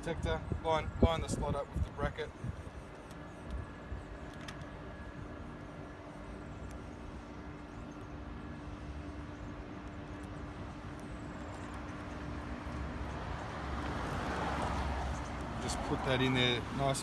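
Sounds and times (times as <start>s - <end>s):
faint hum: 0.0s - 15.6s.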